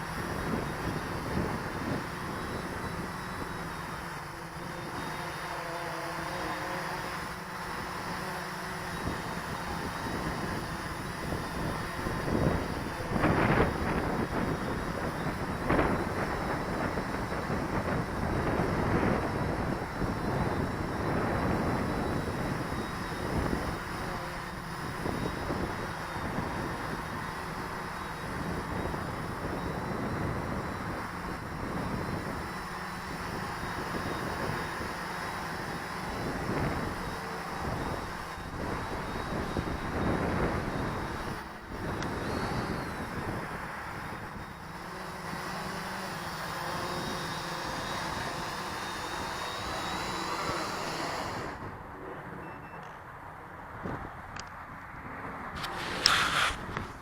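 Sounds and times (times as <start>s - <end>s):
wind buffeting microphone: 0.0s - 5.2s, 8.7s - 52.6s, 53.4s - 57.0s
quadcopter propellers whirring: 0.0s - 57.0s.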